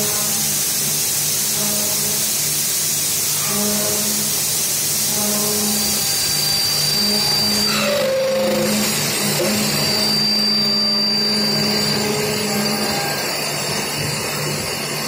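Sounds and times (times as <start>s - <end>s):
steady loud hiss: 0.0s - 15.0s.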